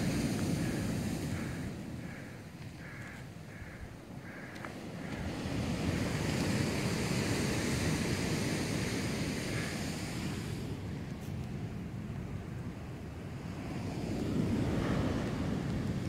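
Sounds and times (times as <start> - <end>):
ocean surf washing on beach: 0.0 - 16.0.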